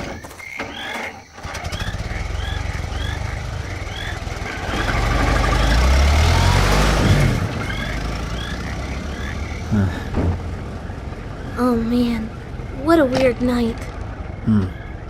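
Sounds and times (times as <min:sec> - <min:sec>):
car engine passing: 0:01.4 - 0:15.0.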